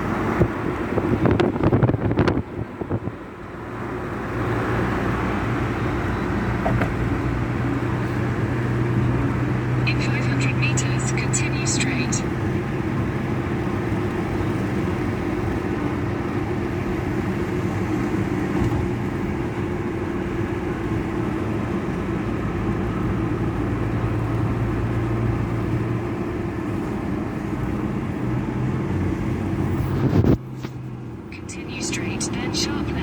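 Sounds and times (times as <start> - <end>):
low engine hum: 0.0 - 33.0
road vehicle running noise: 0.0 - 33.0.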